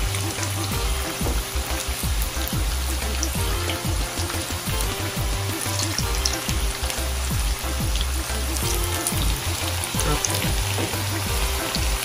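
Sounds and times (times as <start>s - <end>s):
background music with bass: 0.0s - 12.0s
food frying in hot oil: 0.0s - 12.0s.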